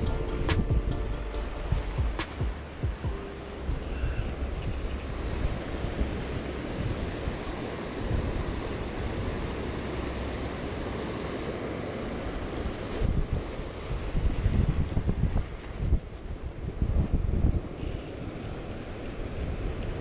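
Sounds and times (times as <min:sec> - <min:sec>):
wind buffeting microphone: 0:00.0 - 0:20.0
ocean surf washing over rocks: 0:01.6 - 0:20.0.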